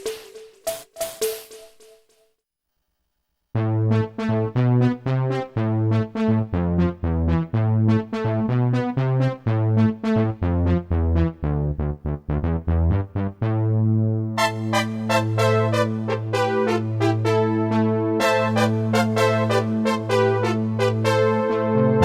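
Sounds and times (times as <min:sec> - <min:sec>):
held synth bass notes: 0:03.6 - 0:22.0
synthesizer keyboard notes: 0:03.6 - 0:22.0.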